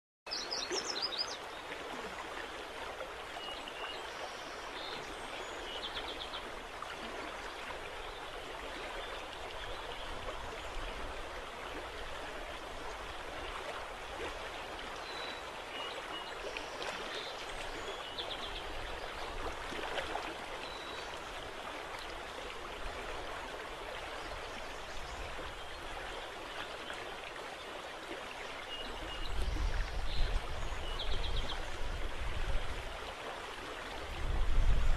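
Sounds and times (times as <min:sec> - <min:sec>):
rushing water: 0:00.3 - 0:34.9.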